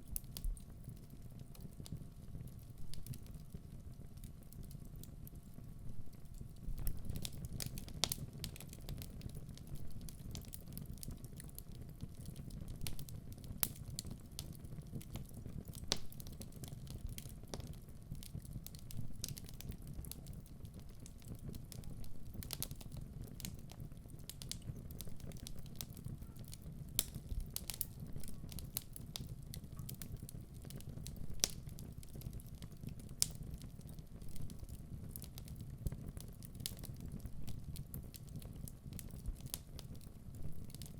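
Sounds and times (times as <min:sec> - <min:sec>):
burning logs crackling and popping: 0:00.0 - 0:40.9
fire flames rumbling: 0:00.1 - 0:40.9.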